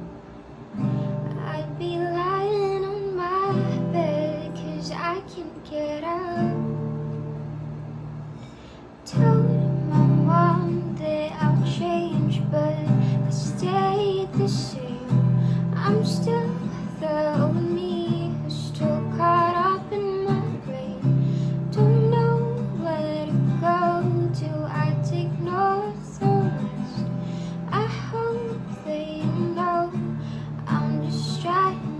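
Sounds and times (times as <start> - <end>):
strummed guitar chords: 0.0 - 31.9
woman singing: 0.8 - 7.1, 9.0 - 31.9.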